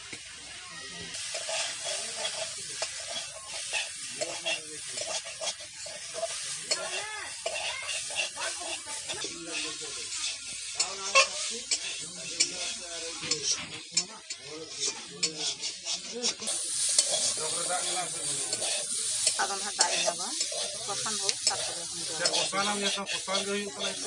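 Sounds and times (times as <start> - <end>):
hot oil sizzling: 0.0 - 24.0
metal spatula scraping pan: 1.1 - 24.0.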